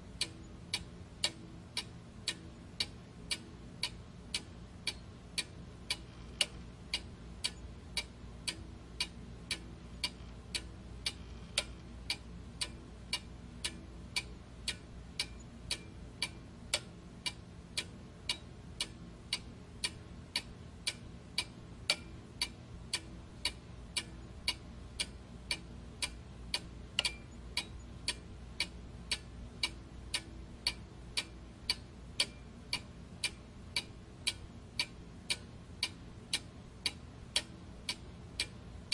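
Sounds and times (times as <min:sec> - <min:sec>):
faint low hum: 0:00.0 - 0:38.9
steady sharp ticking: 0:00.0 - 0:38.9.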